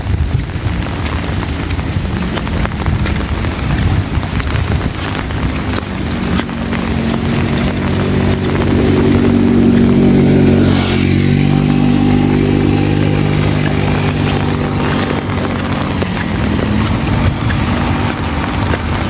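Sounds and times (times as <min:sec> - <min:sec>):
heavy rain hissing: 0:00.0 - 0:19.0
motorcycle engine running: 0:00.0 - 0:19.0.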